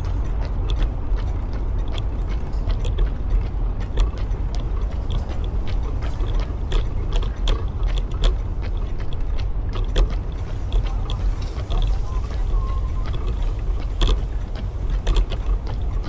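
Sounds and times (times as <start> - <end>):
low rumble: 0.0 - 16.0
running footsteps on pavement: 0.0 - 16.0.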